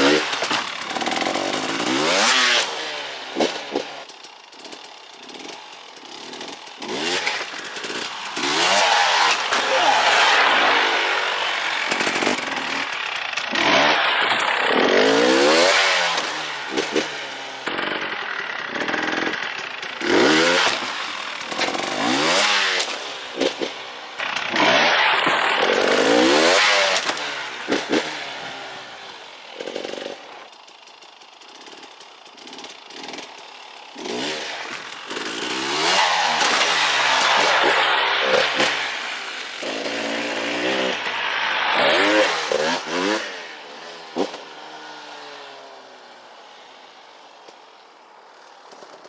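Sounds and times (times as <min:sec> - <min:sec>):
dirt bike engine revving: 0:00.0 - 0:47.6.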